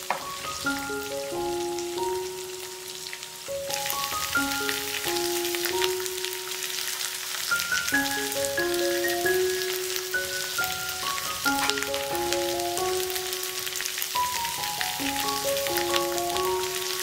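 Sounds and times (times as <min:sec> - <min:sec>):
gentle background music: 0:00.0 - 0:17.0
oil sizzling in a pan: 0:00.0 - 0:17.0.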